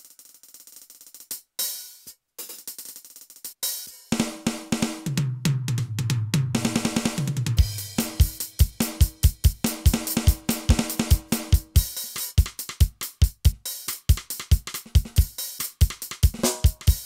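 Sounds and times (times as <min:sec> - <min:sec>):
electronic snare hi-hat and cymbals: 0:00.0 - 0:17.0.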